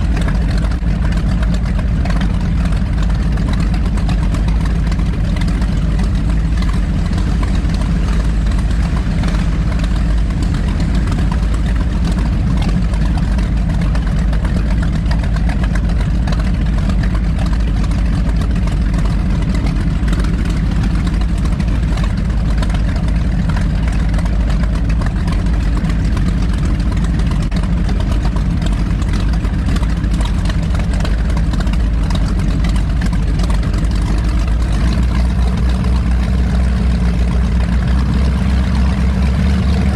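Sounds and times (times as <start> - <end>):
powerboat engines droning: 0.0 - 39.9.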